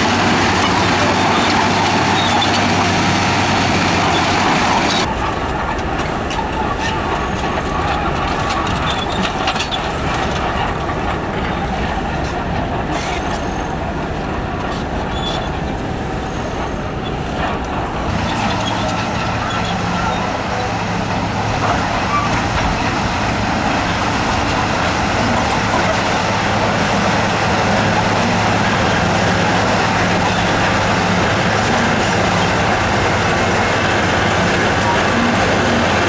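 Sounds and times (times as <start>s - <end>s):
diesel machinery rumbling: 0.0s - 36.0s.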